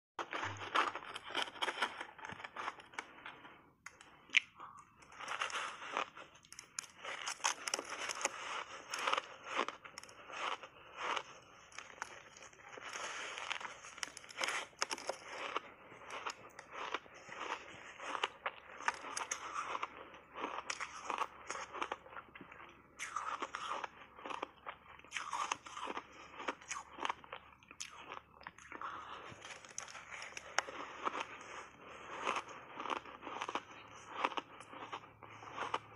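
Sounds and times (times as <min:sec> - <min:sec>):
ice crunching being chewed: 0:00.2 - 0:35.9.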